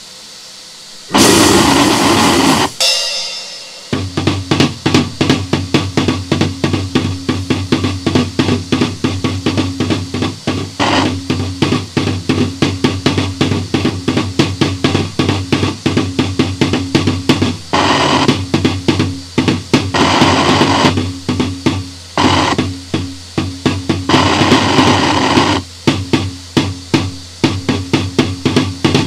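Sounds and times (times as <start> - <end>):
harsh distorted static: 0.0 - 29.0
rapid percussive hits: 1.1 - 29.0.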